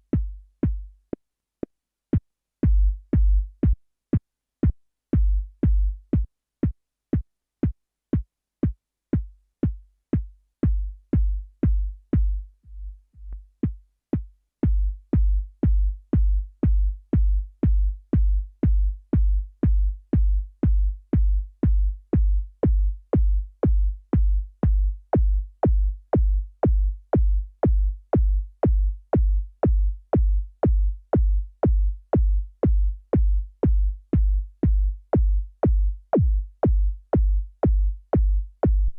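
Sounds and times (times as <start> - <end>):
synthesized kick drum: 0.0 - 1.0, 2.2 - 38.9.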